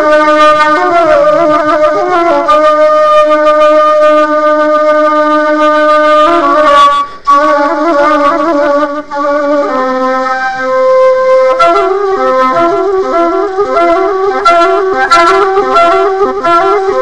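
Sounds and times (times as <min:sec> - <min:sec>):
solo wind instrument melody: 0:00.0 - 0:17.0.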